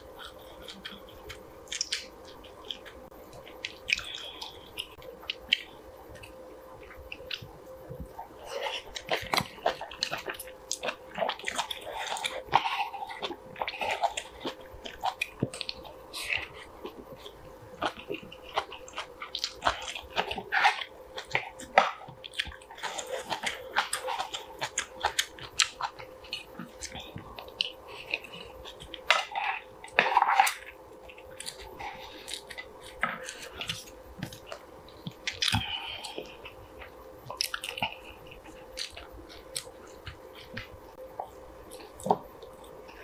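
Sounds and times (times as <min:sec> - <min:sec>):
wet chewing clicks and smacks: 0:00.2 - 0:08.1, 0:08.9 - 0:42.8.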